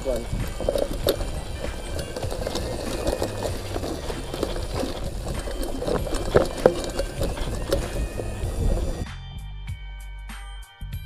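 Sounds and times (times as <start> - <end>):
bike rattling on bumpy trail: 0.0 - 9.1
wind on microphone: 0.0 - 9.1.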